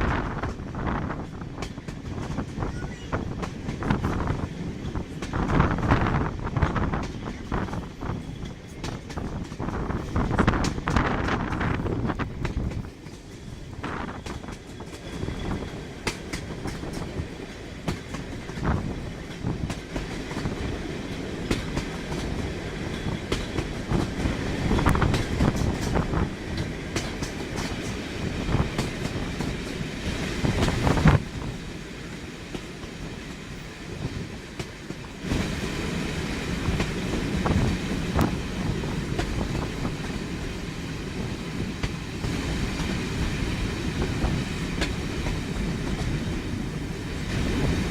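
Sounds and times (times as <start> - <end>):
train rumble: 0.0 - 47.9
train wheels clicking over rail joints: 0.0 - 47.9.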